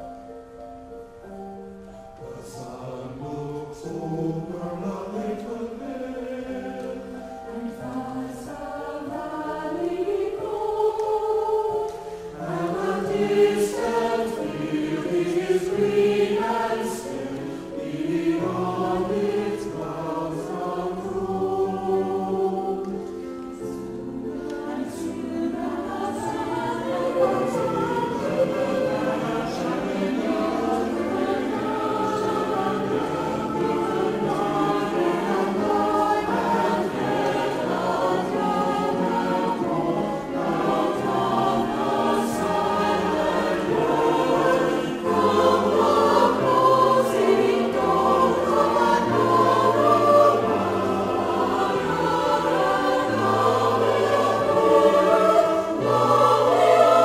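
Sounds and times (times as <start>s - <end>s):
mixed choir singing: 2.2s - 57.0s.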